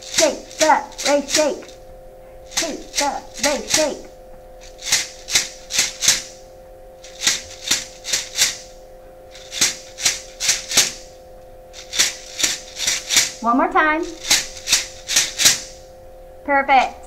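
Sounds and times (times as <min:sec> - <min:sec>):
beaded gourd rattle shaken: 0:00.0 - 0:01.8, 0:02.5 - 0:06.4, 0:07.0 - 0:15.8.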